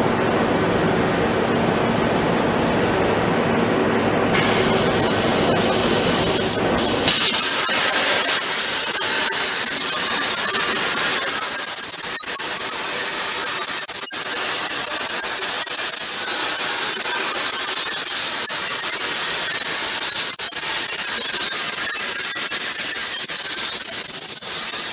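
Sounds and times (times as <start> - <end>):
plasma torch cutting steel: 4.3 - 24.9.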